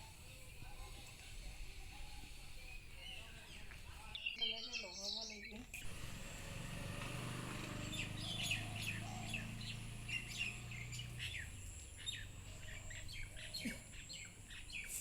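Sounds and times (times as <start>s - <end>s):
birds chirping: 2.6s - 15.0s.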